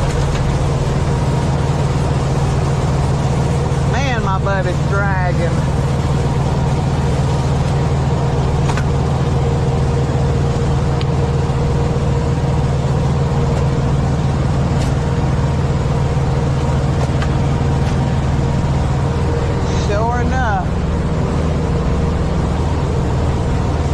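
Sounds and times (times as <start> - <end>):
diesel truck engine droning: 0.0 - 23.9.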